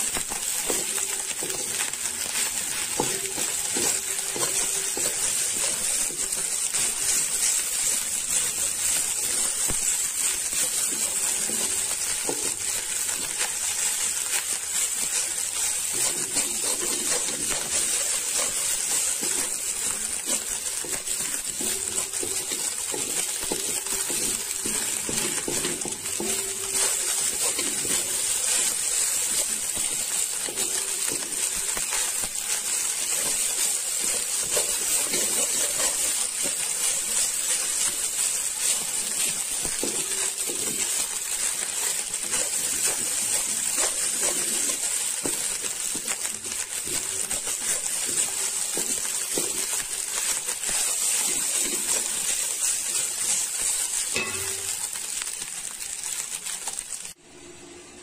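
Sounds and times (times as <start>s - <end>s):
wooden spatula scraping a pan: 0.0s - 56.9s
rice sizzling in a metal pan: 0.0s - 58.0s.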